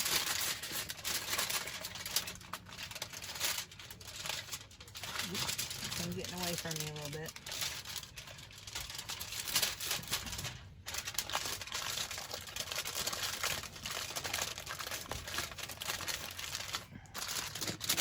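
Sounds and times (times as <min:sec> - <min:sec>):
aluminium foil crinkling: 0:00.0 - 0:18.0.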